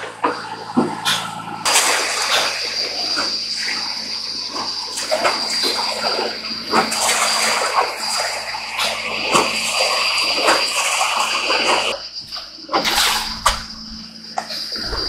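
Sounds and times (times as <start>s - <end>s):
thin high whine: 0.0s - 15.0s
water gushing into metal tank: 0.0s - 15.0s.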